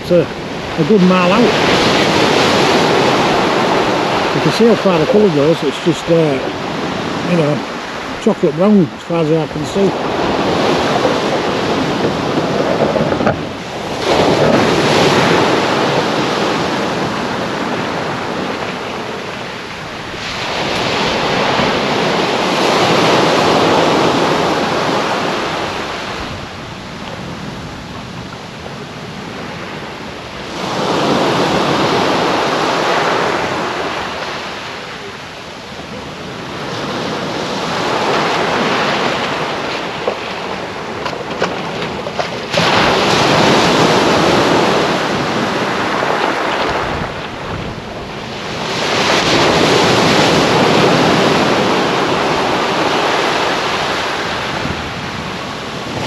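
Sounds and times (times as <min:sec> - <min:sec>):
waves washing on pebble beach: 0:00.0 - 0:56.0.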